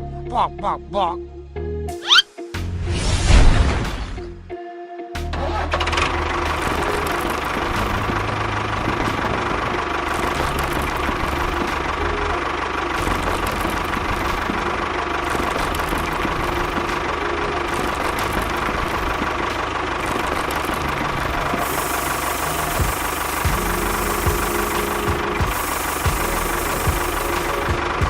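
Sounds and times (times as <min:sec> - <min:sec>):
small engine running: 0:05.4 - 0:28.0.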